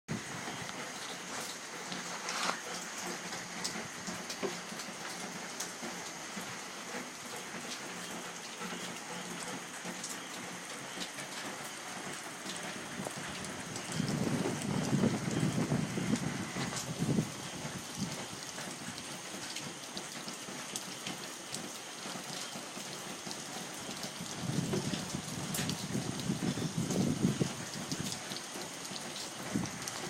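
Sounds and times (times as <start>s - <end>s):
steady rain falling: 0.1s - 30.0s.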